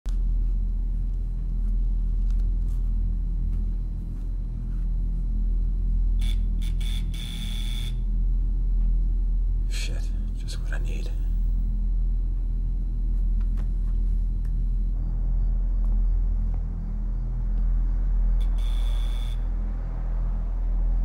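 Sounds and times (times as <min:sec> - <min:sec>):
low rumbling drone with hum: 0:00.1 - 0:21.0.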